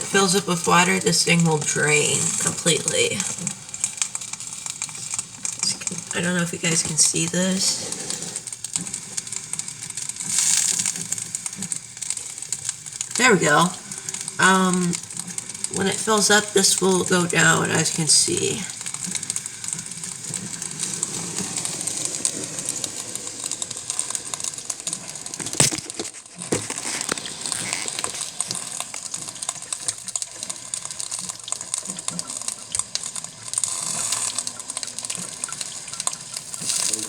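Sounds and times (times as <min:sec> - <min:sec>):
coffee maker water sputtering: 0:00.0 - 0:37.0.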